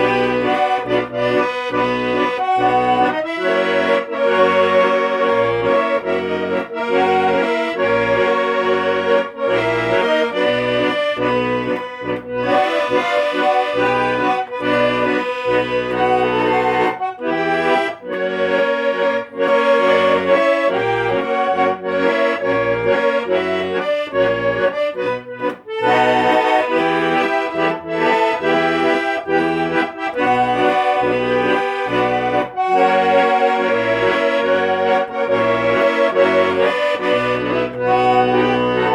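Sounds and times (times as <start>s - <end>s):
accordion playing tango melody: 0.0s - 38.9s
pulsing bass accompaniment: 0.0s - 38.9s.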